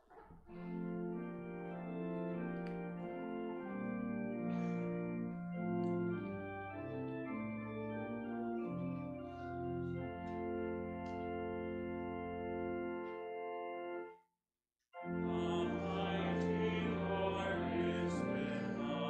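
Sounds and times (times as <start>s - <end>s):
church organ playing held chords: 0.5s - 14.2s, 15.0s - 19.0s.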